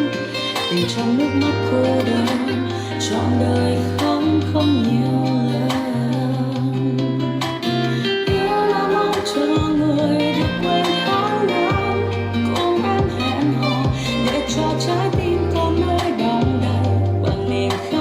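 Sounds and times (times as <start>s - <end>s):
pop music through a speaker: 0.0s - 18.0s.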